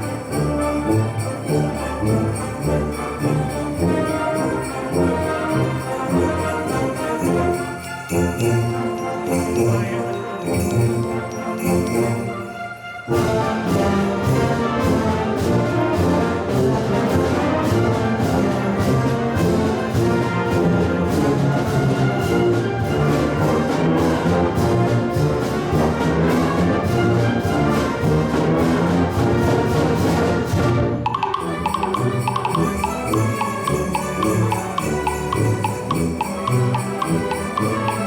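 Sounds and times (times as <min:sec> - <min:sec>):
percussion strikes: 0:00.0 - 0:23.7, 0:31.0 - 0:38.0
wind band playing: 0:00.0 - 0:38.0.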